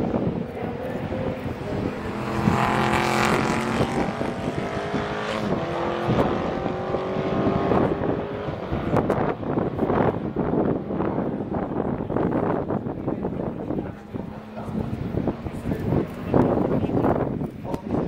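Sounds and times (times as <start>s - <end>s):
race car passing: 0.0s - 17.3s
race car engines at high revs: 0.0s - 18.0s.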